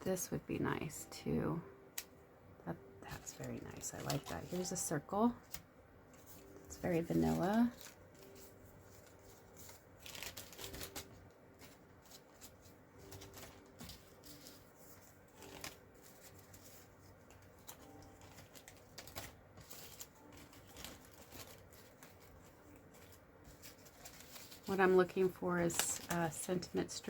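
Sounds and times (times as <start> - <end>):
card pieces rustling: 3.1 - 5.6, 6.2 - 27.0.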